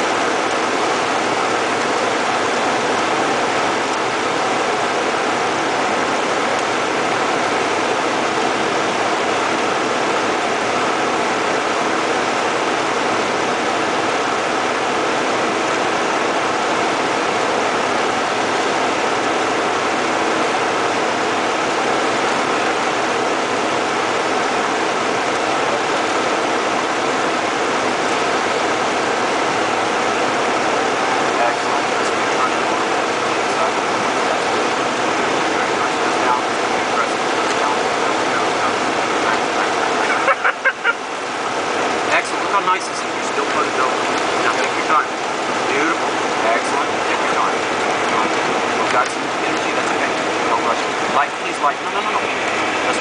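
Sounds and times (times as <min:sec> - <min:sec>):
light aircraft engine drone: 0:00.0 - 0:53.0
rushing airflow: 0:00.0 - 0:53.0.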